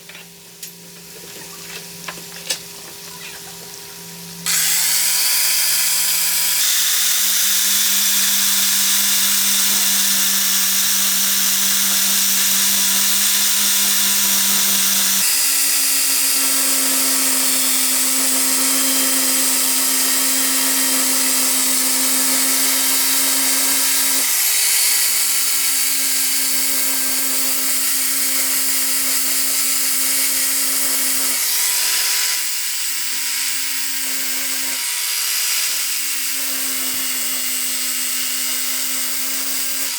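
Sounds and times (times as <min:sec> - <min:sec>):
power tool grinding: 0:00.0 - 0:39.9.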